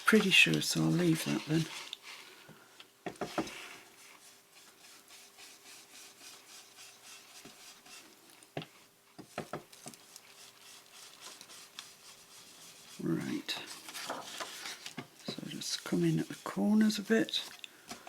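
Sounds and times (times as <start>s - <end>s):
brush rubbing on paper: 0.0s - 2.3s, 3.4s - 8.2s, 9.3s - 17.6s.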